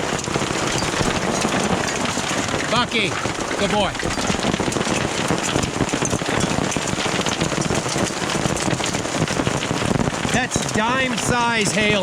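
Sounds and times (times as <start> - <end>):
hail and rain pattering: 0.0 - 12.0.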